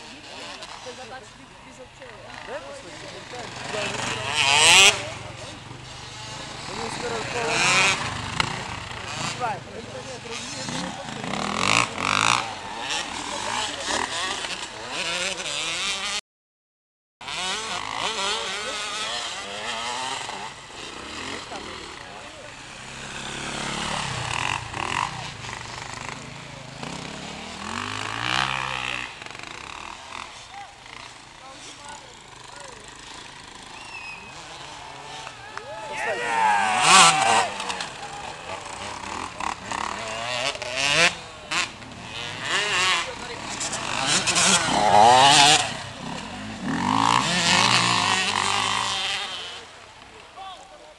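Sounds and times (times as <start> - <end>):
motorcycle engines revving: 0.0 - 16.2, 17.2 - 50.9.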